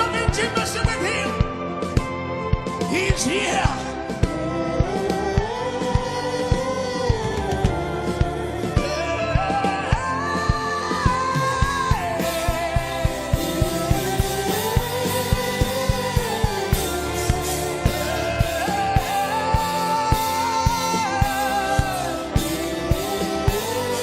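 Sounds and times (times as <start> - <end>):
worship music with steady beat: 0.0 - 24.0.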